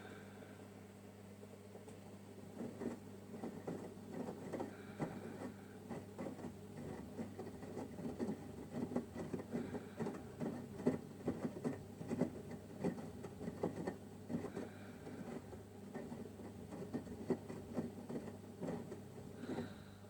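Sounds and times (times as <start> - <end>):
washing machine running: 1.3 - 20.0.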